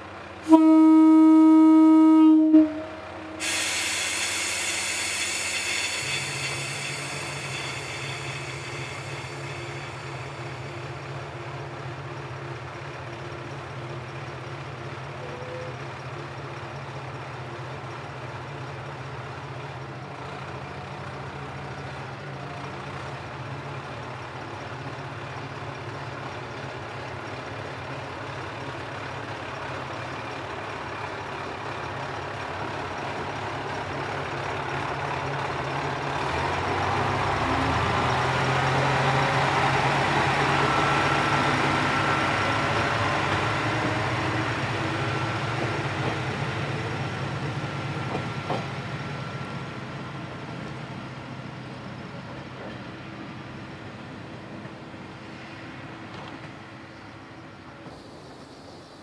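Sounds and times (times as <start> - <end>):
diesel railcar engine: 0.0 - 59.0.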